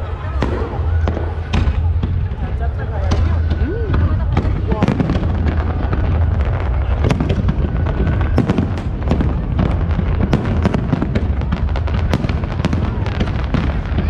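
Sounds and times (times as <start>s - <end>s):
fireworks bangs and crackling: 0.0s - 14.0s
low rumble of explosions: 0.0s - 14.0s.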